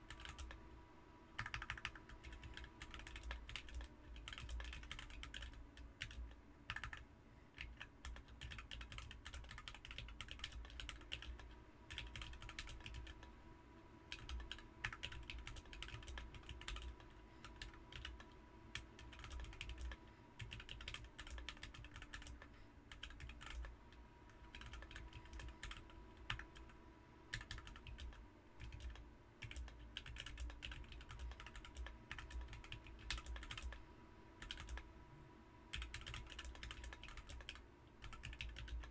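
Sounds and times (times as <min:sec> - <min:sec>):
mechanical keyboard typing: 0:00.1 - 0:00.6, 0:01.4 - 0:07.0, 0:07.6 - 0:13.3, 0:14.1 - 0:23.7, 0:24.3 - 0:26.7, 0:27.3 - 0:33.8, 0:34.4 - 0:34.8, 0:35.7 - 0:38.9.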